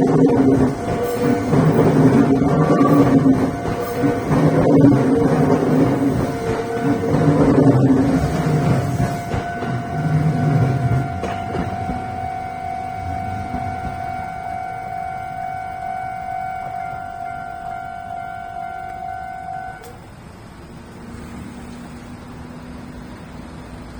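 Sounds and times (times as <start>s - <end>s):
level-crossing warning bell: 0.0s - 20.8s
train rumble: 0.0s - 23.9s.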